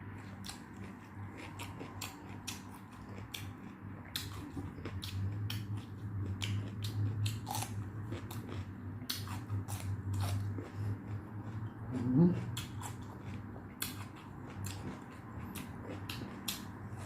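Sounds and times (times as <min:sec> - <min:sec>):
steady low hum: 0:00.0 - 0:17.0
chewing and mouth clicks: 0:00.2 - 0:17.0.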